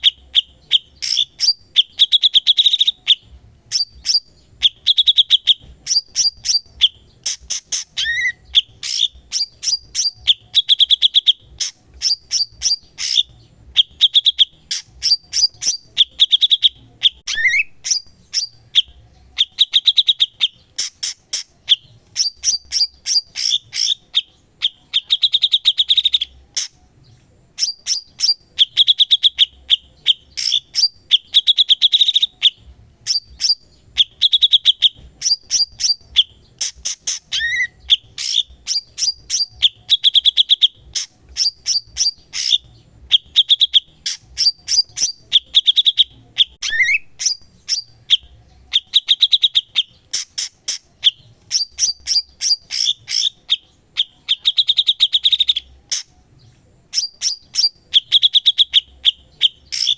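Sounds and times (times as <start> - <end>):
sharp clicking bird chips: 0.0 - 56.1, 56.9 - 59.9
bird singing buzzy trills: 0.0 - 59.9.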